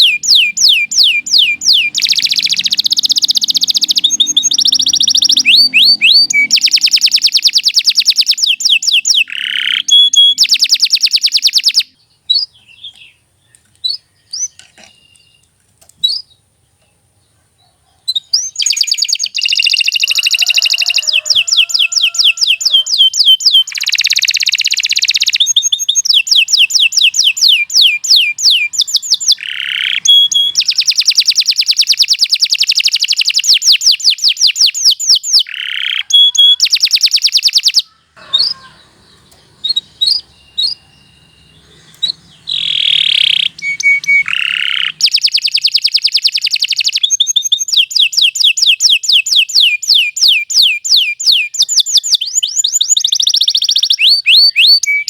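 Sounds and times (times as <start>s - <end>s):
canary singing trills: 0.0s - 16.5s, 17.2s - 55.0s.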